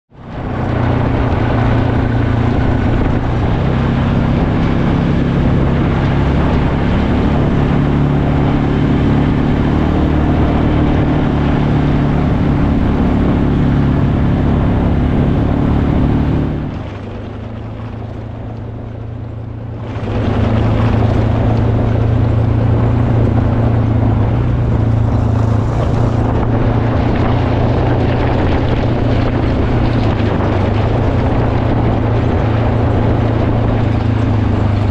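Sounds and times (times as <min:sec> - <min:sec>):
motor engine running: 0:00.1 - 0:34.9.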